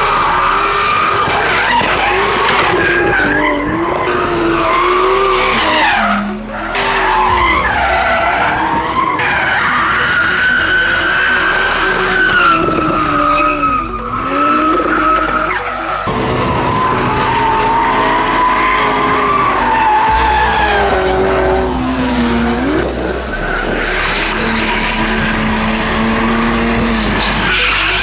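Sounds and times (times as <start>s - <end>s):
car engines revving: 0.0s - 28.0s
tyres skidding and squealing: 0.0s - 28.0s.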